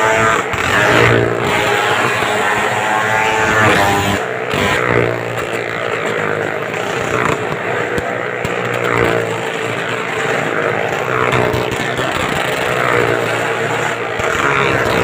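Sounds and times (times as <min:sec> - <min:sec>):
motorcycle engines running: 0:00.0 - 0:15.0.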